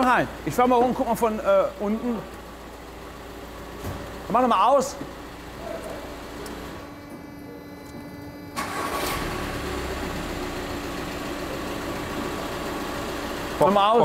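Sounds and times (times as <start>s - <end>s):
van engine starting and running: 0.0s - 14.0s.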